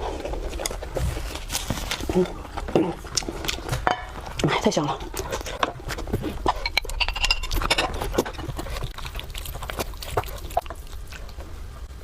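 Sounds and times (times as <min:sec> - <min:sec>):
person chewing food: 0:00.0 - 0:11.8.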